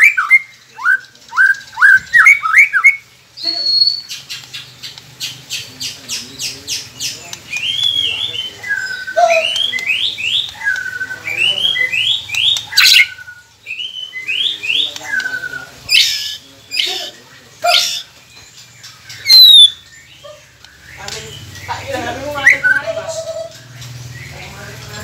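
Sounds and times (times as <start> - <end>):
bird whistling song: 0.0 - 24.6
harsh noisy bird calls: 0.0 - 25.0.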